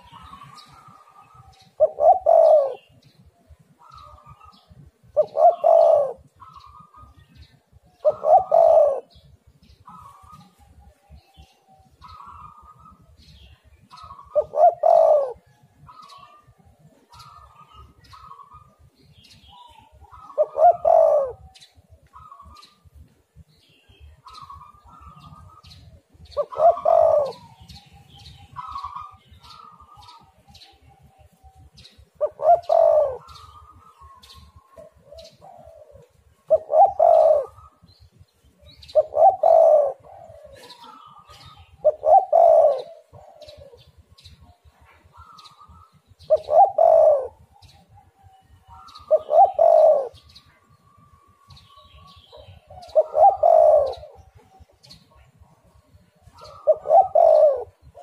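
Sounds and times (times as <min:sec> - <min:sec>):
high bird calls: 0:00.0 - 0:23.0, 0:23.6 - 0:58.0
dove cooing: 0:00.0 - 0:23.5, 0:24.1 - 0:58.0.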